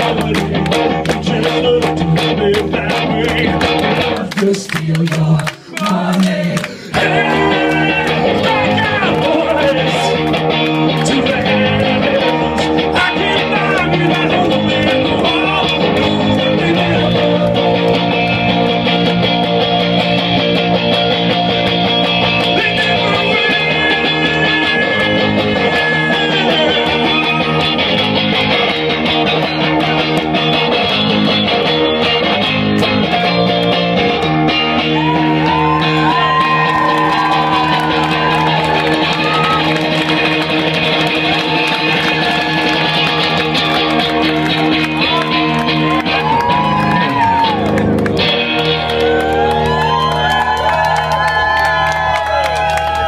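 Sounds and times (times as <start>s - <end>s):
electric guitar strummed chords: 0.0s - 4.4s, 6.9s - 53.0s.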